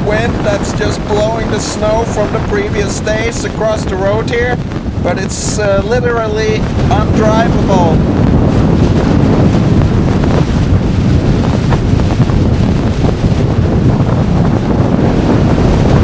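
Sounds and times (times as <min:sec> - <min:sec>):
blizzard wind buffeting microphone: 0:00.0 - 0:16.0.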